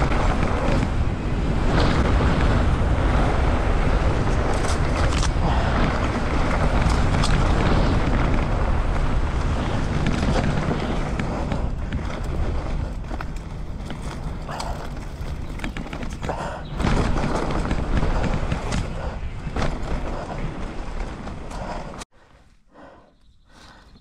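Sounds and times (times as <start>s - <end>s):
bike rattling: 0.0s - 22.0s
wind rushing over microphone: 0.0s - 22.3s
tyres rolling on dirt trail: 0.0s - 24.0s.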